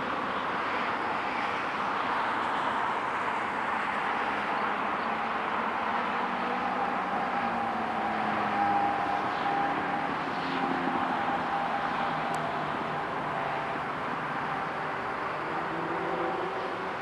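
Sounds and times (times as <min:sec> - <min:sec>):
distant jet engines at takeoff: 0:00.0 - 0:17.0
road traffic passing: 0:00.0 - 0:17.0.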